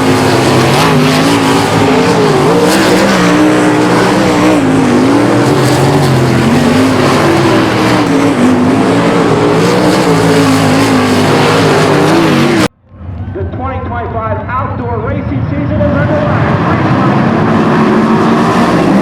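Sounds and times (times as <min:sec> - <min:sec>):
race car engines at speed: 0:00.0 - 0:19.0.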